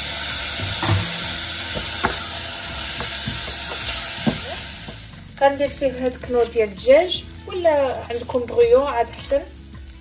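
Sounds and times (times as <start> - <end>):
rice and onion sizzling in oil: 0.0 - 10.0.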